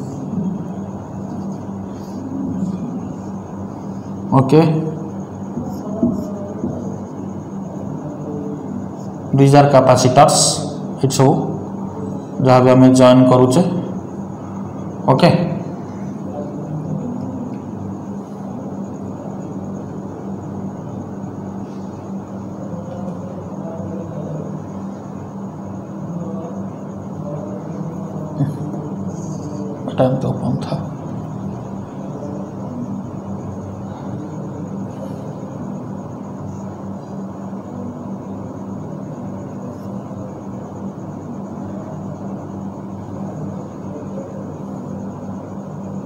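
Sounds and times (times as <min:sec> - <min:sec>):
even background noise: 0:00.0 - 0:46.0
low room hum: 0:00.0 - 0:46.0.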